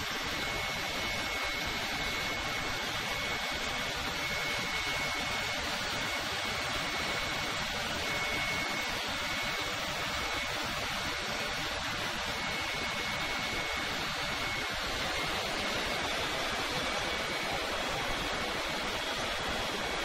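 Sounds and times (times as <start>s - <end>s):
faint high whine: 0.0s - 20.0s
rushing machinery noise: 0.0s - 20.0s.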